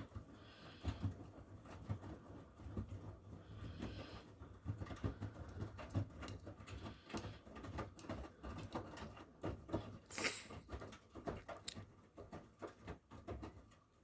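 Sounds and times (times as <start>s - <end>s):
laundry tumbling in washing machine: 0.0s - 14.0s.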